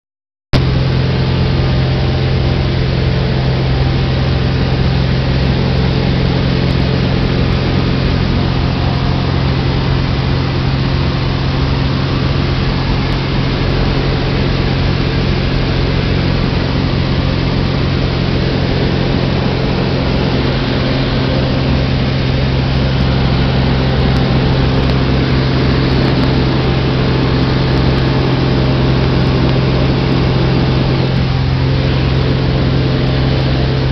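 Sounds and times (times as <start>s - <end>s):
aircraft engine droning: 0.6s - 33.9s
rush of wind: 0.6s - 33.9s.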